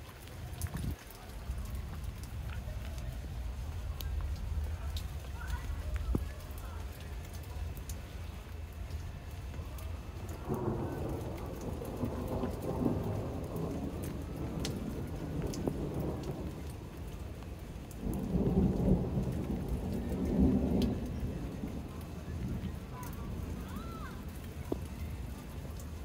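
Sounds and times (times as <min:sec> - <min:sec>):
raindrops ticking: 0:00.0 - 0:26.0
steady rain: 0:00.0 - 0:26.0.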